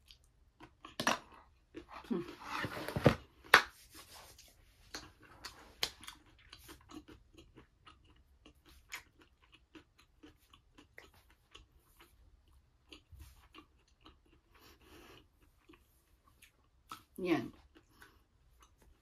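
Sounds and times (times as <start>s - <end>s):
person chewing crunchy food: 0.0s - 2.4s, 4.7s - 19.0s.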